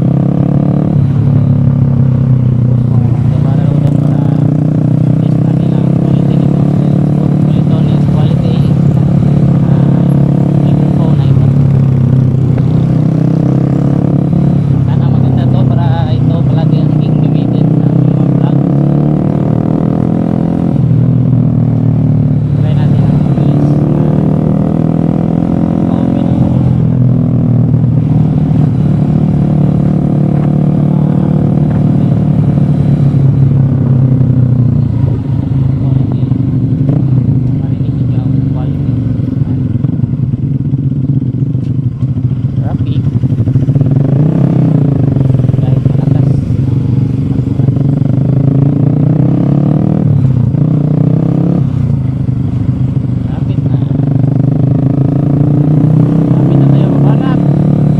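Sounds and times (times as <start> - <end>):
vehicle engine running steadily: 0.0 - 57.9.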